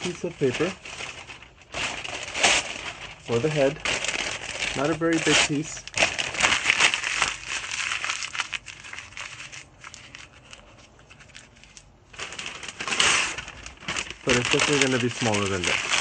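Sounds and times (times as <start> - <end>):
paper being crumpled: 0.0 - 16.0.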